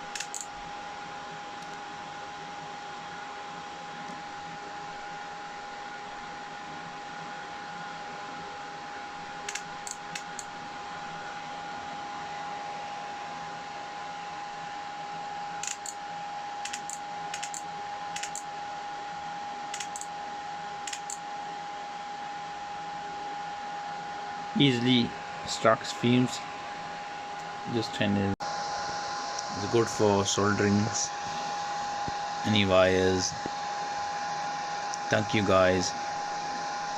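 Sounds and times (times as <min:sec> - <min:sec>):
small fan hissing and whining: 0:00.0 - 0:36.9.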